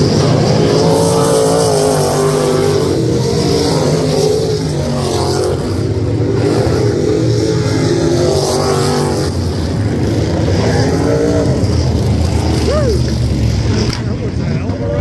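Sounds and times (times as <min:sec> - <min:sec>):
low rumble: 0:00.0 - 0:15.0
race car engine: 0:00.0 - 0:15.0.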